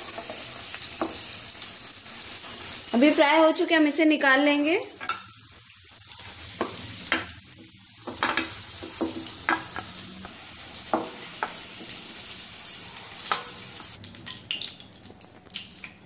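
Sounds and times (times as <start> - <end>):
frying hiss in oil: 0.0 - 16.0.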